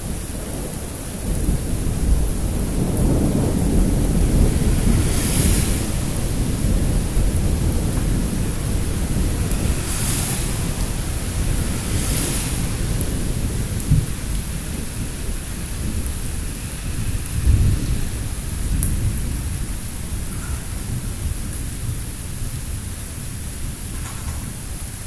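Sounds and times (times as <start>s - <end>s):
steady rain: 0.0s - 25.0s
thunder rumbling: 0.0s - 25.0s.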